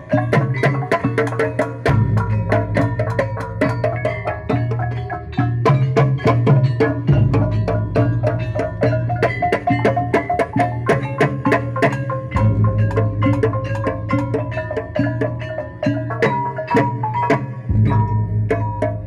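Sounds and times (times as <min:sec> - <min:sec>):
hand drums beating: 0:00.0 - 0:19.0
metal gongs and metallophones ringing: 0:00.0 - 0:19.0.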